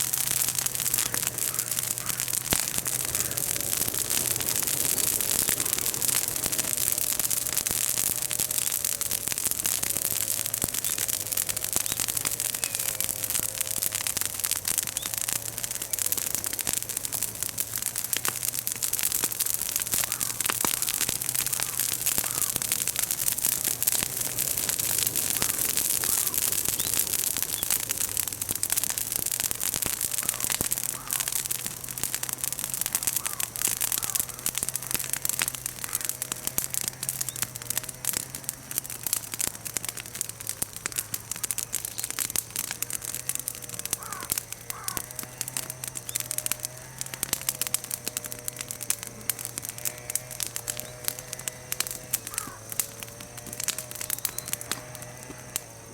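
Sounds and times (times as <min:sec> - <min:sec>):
bonfire crackling and popping: 0:00.0 - 0:55.9.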